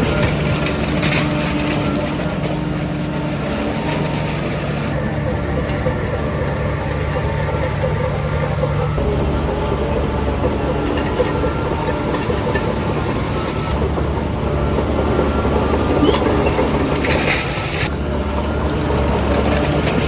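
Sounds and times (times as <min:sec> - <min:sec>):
heavy diesel machinery running: 0:00.0 - 0:20.0
metallic rattling: 0:00.0 - 0:20.0.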